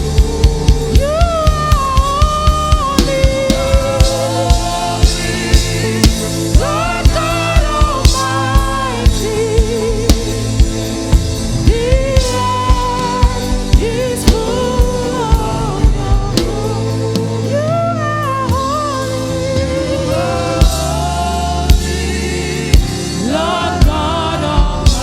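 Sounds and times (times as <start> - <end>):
drum kit beat: 0.0 - 25.0
keyboard chords: 0.0 - 25.0
person singing: 0.0 - 25.0.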